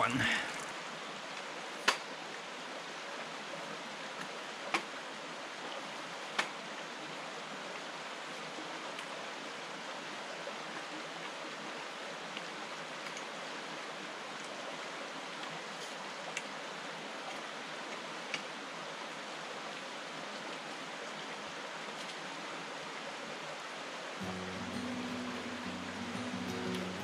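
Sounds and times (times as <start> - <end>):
stream flowing water: 0.0 - 27.0.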